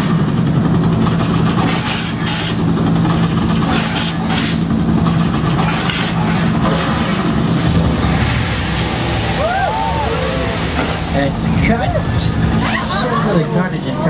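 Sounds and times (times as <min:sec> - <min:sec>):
car engines running: 0:00.0 - 0:14.0
sharp bursts of noise: 0:01.5 - 0:13.0.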